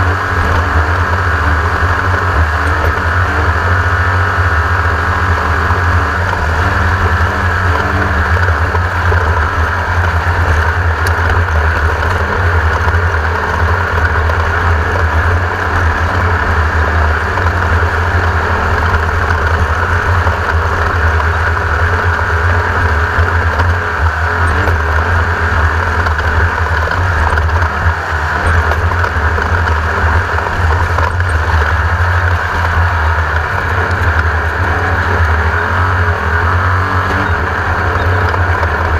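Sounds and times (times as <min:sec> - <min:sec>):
race car engine droning: 0:00.0 - 0:38.9.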